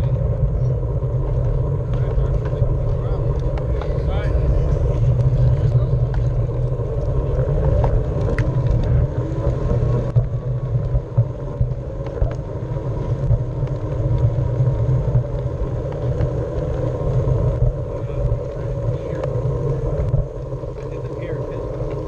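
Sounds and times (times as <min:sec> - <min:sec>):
electric board motor hum: 0:00.0 - 0:22.0.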